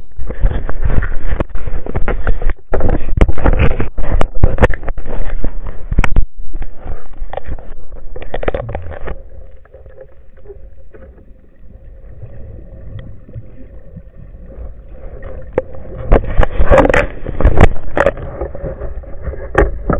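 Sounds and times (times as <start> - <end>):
faint steady hum: 0.0 - 19.9
underwater rushing and knocking: 0.0 - 19.9.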